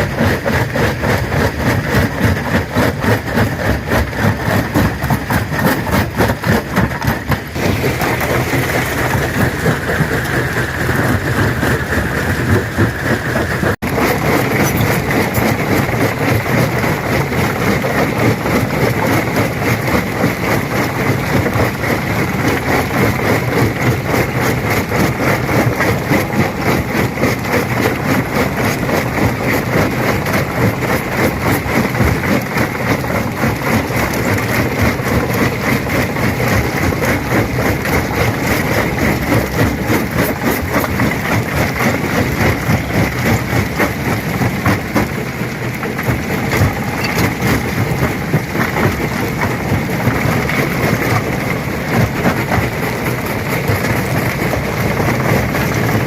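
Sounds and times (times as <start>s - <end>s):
stone crusher machine running: 0.0s - 56.0s.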